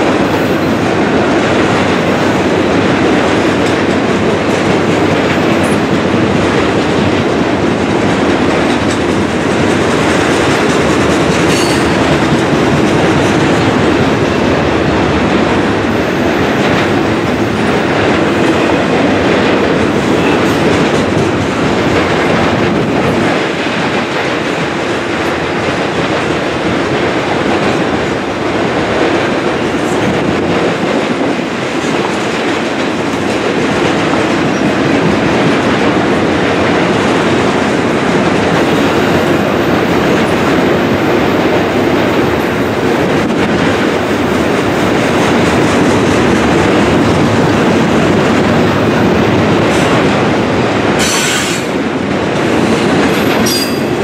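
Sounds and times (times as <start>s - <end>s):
steel wheels running on rails: 0.0s - 54.0s.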